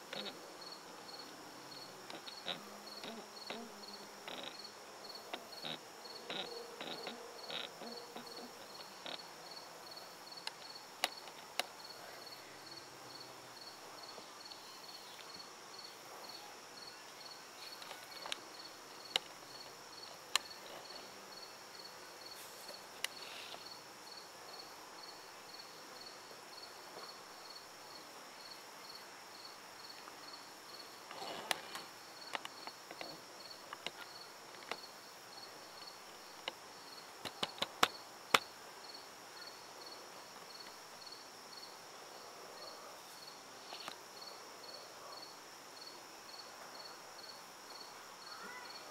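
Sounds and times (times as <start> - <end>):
crickets chirping: 0.0 - 48.9
high insect drone: 0.0 - 48.9.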